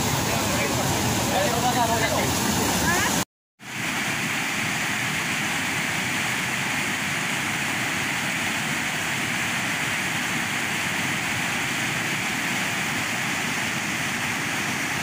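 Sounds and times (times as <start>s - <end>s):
water rushing over dam spillway: 0.0s - 15.0s.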